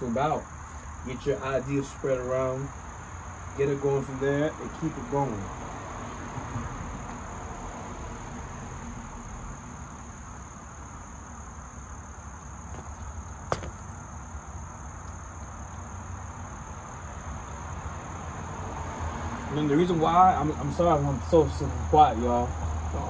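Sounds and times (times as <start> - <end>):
insects shrilling: 0.0 - 23.0
low outdoor rumble: 0.0 - 23.0.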